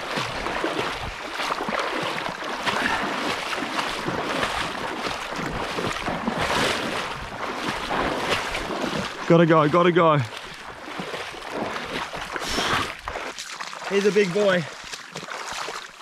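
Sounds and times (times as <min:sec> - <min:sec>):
footsteps splashing through water: 0:00.0 - 0:16.0.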